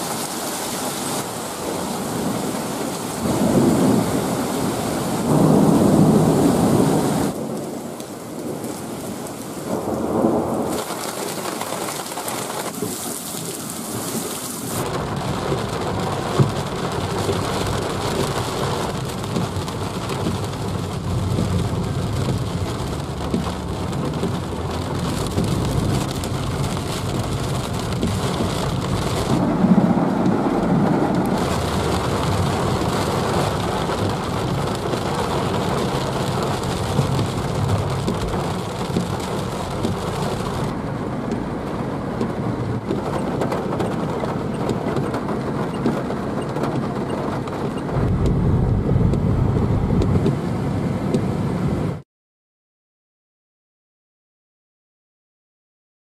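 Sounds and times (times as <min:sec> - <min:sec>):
heavy rain on car roof: 0:00.0 - 0:52.0.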